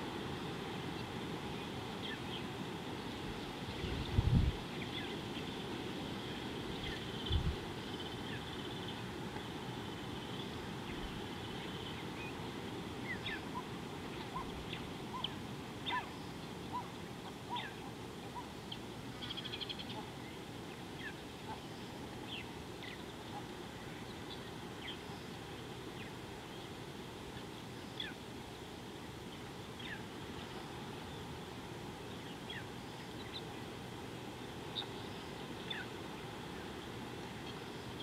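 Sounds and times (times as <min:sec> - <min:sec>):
low outdoor hiss: 0:00.0 - 0:38.0.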